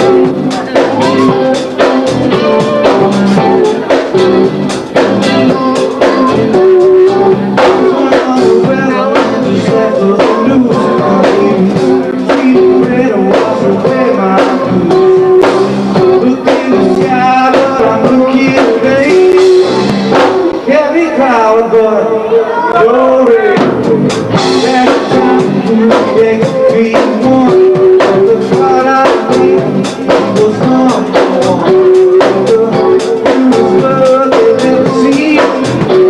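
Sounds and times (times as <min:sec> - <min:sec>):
band playing blues rock: 0:00.0 - 0:36.0.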